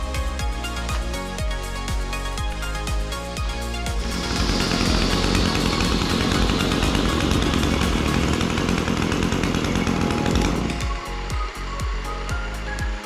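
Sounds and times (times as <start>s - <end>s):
background music with beat: 0.0s - 13.0s
brush cutter engine running: 2.4s - 13.0s.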